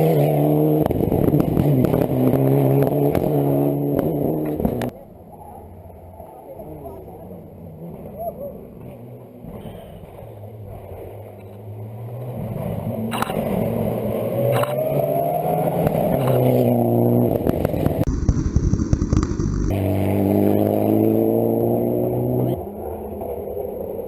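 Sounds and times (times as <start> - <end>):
loud rough rumble: 0.0 - 5.0, 6.8 - 24.0
rally car engine accelerating: 0.0 - 24.0.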